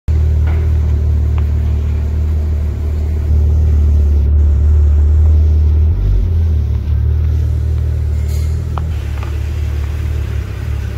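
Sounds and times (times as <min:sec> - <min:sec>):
car engine deep exhaust note: 0:00.1 - 0:10.9.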